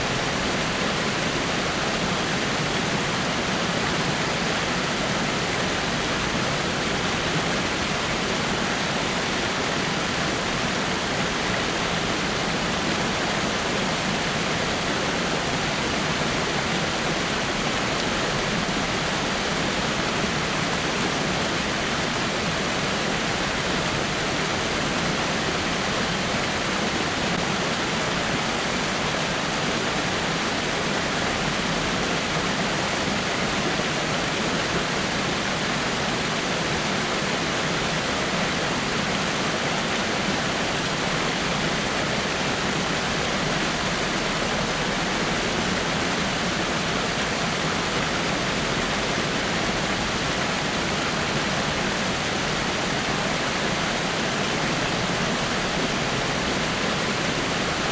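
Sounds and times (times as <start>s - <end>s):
small waterfall rushing: 0.0s - 57.9s.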